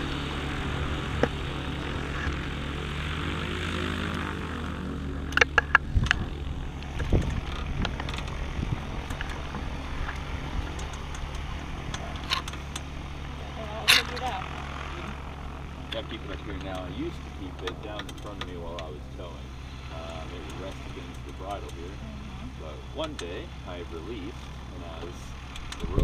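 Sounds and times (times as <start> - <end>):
propeller engine running: 0.0 - 26.0.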